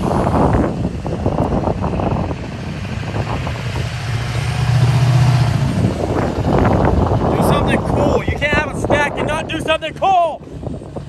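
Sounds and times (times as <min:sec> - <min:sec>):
truck engine passing by: 0:00.0 - 0:11.0.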